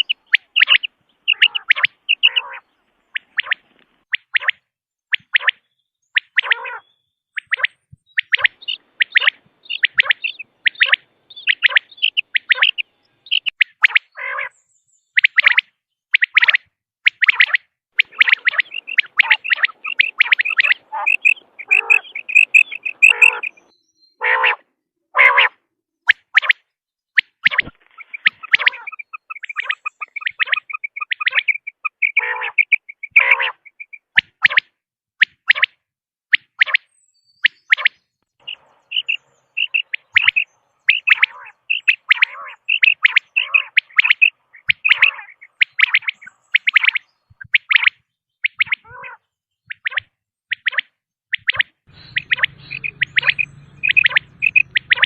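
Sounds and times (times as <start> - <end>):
quail calling: 0.0 - 4.6, 6.2 - 14.5, 15.2 - 25.6, 27.2 - 35.8, 36.6 - 55.0
soft chirps: 0.0 - 14.2, 15.0 - 24.2, 27.2 - 34.6, 36.4 - 55.0.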